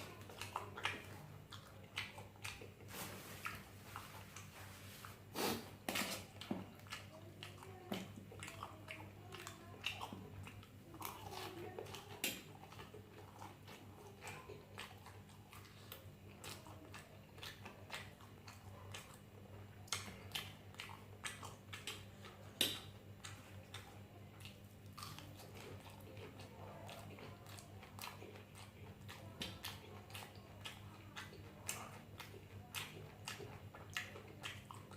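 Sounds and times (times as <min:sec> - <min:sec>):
chewing and biting food: 0:00.0 - 0:34.9.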